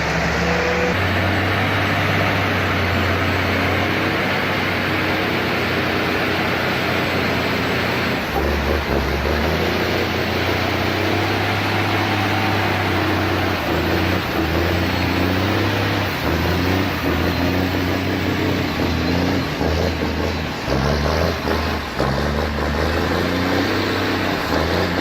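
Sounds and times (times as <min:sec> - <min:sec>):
dense grinding noise: 0:00.0 - 0:25.0
engine running under load: 0:00.0 - 0:25.0.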